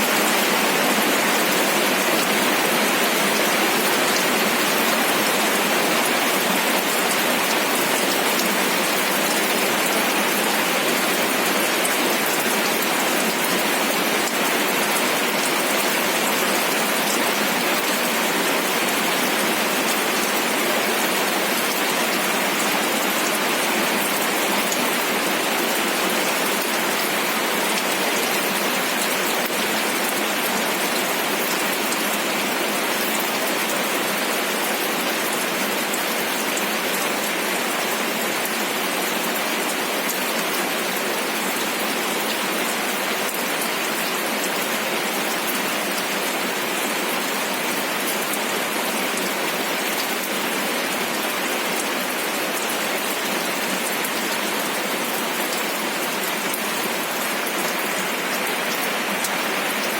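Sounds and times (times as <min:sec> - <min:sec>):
steady rain on a surface: 0:00.0 - 0:59.9.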